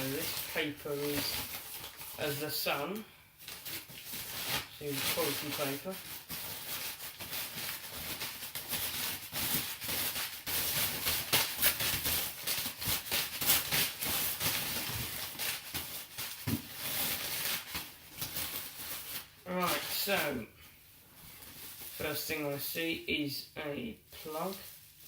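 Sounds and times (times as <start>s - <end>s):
packing paper rustling: 0.0s - 25.0s.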